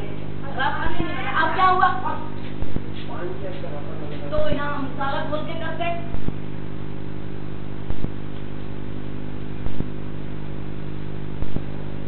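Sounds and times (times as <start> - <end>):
electrical mains hum and hiss: 0.0 - 12.0.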